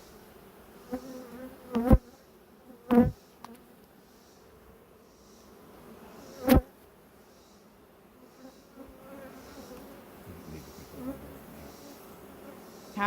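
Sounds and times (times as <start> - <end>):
bees buzzing: 0.0 - 13.0
loud bee buzzes close by: 0.0 - 13.0.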